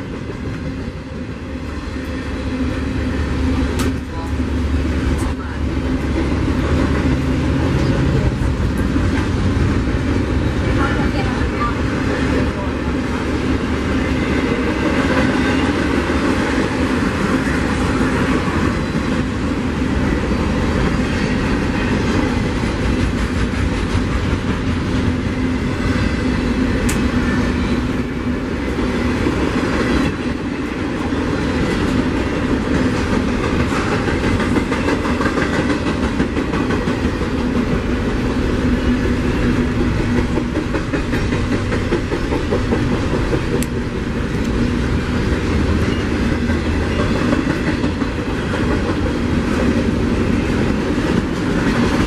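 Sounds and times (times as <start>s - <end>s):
train wheels on rail: 0.0s - 52.0s.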